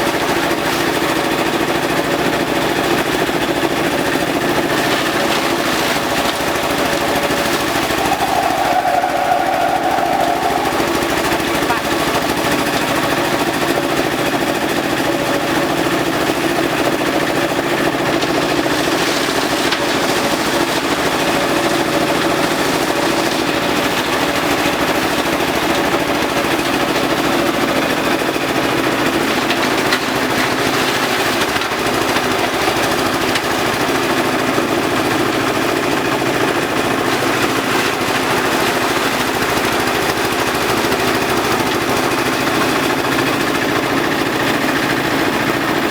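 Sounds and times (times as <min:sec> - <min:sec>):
compost shredder running: 0:00.0 - 0:45.9.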